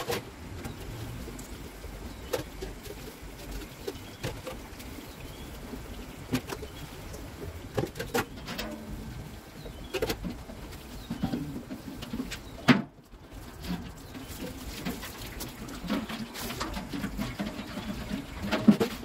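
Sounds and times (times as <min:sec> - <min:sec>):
water splashing and pouring: 0:00.0 - 0:19.0.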